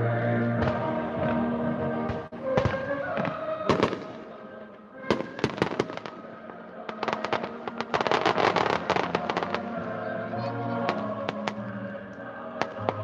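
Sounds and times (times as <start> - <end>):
music playing: 0.0 - 13.0
fireworks bursting: 0.5 - 13.0.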